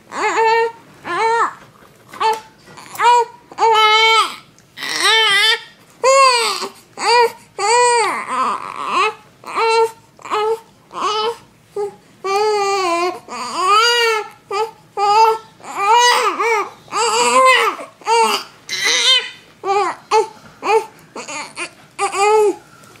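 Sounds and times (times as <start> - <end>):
baby crying: 0.1 - 1.6, 2.2 - 22.6.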